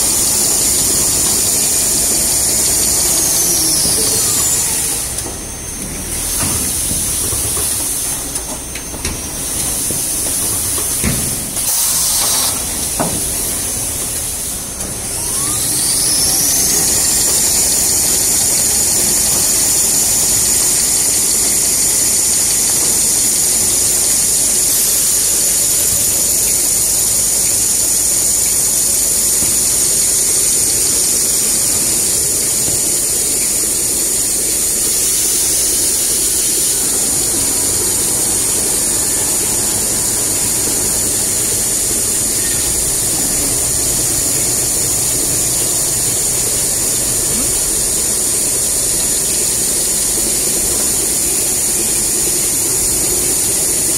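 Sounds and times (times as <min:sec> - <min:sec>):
loud hiss: 0:00.0 - 0:08.4, 0:09.4 - 0:53.9
machine whine: 0:00.0 - 0:53.9
production line machine running: 0:00.0 - 0:53.9.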